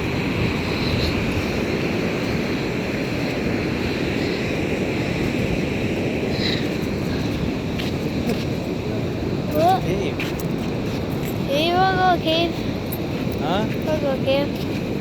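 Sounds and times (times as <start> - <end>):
surf on beach: 0.0 - 15.0
wind buffeting microphone: 0.0 - 15.0.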